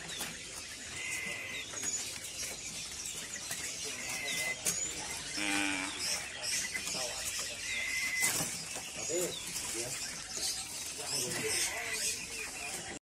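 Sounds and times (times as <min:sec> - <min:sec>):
hubbub of market: 0:00.0 - 0:13.0.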